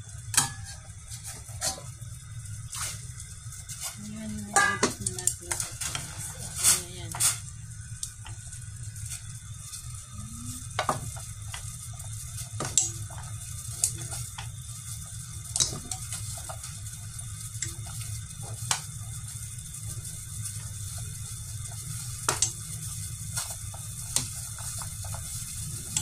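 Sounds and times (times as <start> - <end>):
water boiling in a pot: 0.0 - 26.0.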